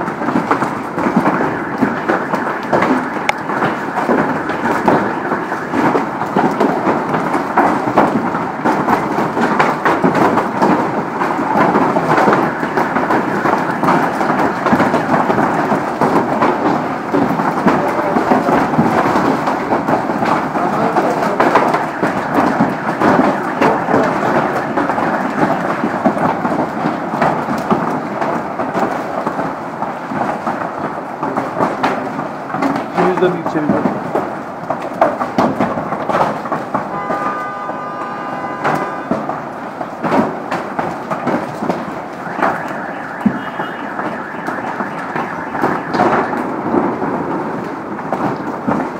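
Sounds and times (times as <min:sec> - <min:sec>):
hailstones pelting pavement and cars: 0:00.0 - 0:48.9
rain: 0:00.0 - 0:48.9.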